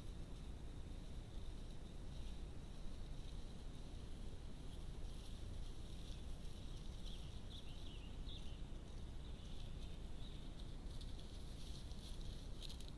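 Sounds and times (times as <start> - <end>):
low rumble with hiss: 0.0 - 12.9.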